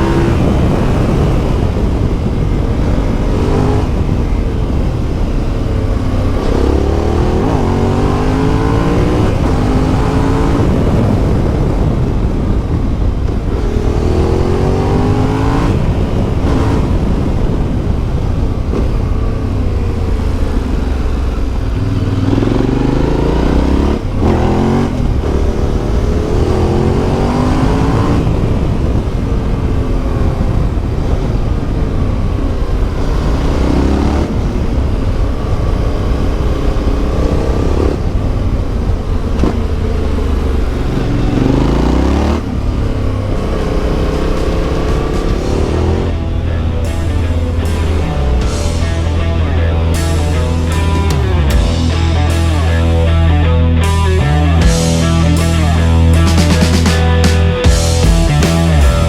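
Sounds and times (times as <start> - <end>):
wind rush: 0.0 - 53.7
motorcycle engine revving through gears: 0.0 - 59.0.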